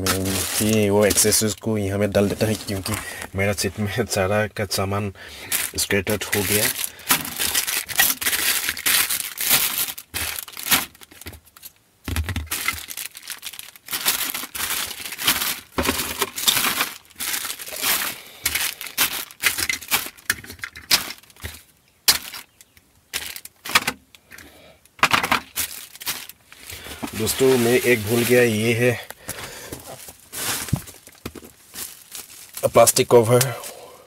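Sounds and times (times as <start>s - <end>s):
plastic packaging crinkling: 0.0s - 4.0s, 5.4s - 24.1s, 25.0s - 33.5s.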